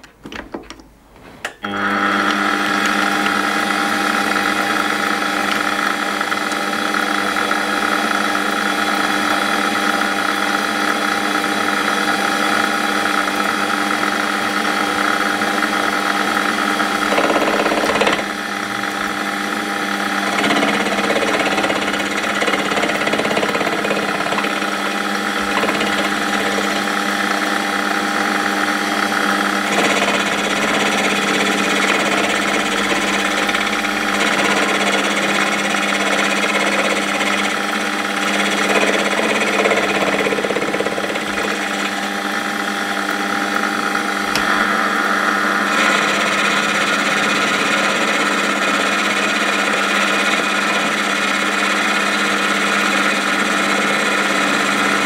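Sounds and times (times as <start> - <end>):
metal lathe whining: 1.6 - 55.0.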